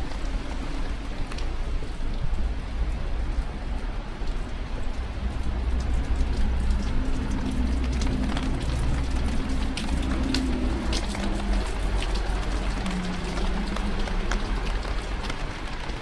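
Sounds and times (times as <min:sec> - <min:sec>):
raindrops ticking: 0:00.0 - 0:16.0
steady rain falling: 0:00.0 - 0:16.0.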